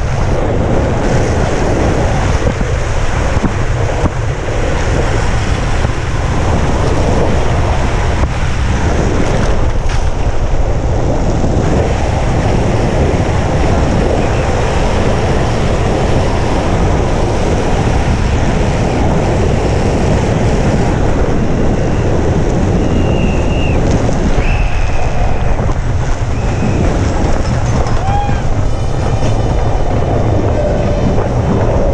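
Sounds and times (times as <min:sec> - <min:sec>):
longboard wheels rolling on concrete: 0:00.0 - 0:31.9
wind rush over microphone: 0:00.0 - 0:31.9.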